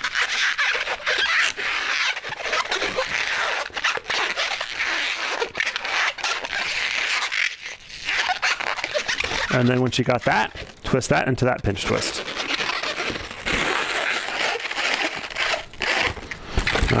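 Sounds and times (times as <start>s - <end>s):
balloon rubber rubbing: 0.0s - 17.0s.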